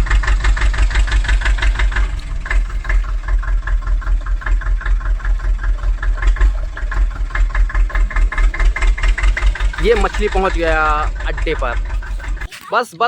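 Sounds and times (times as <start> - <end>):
toy tractor engine chugging: 0.0 - 13.0.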